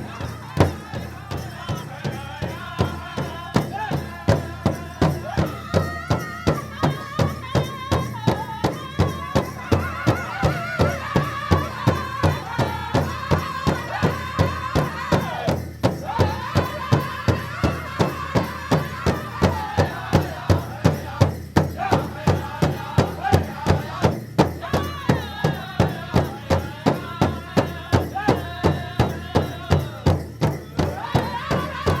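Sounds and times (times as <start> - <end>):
steady drumbeat: 0.0 - 32.0
voices singing: 0.0 - 32.0.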